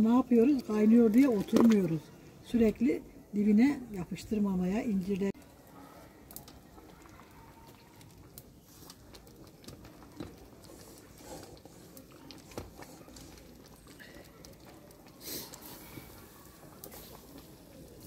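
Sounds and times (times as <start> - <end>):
jam boiling with pops: 0.0 - 18.0.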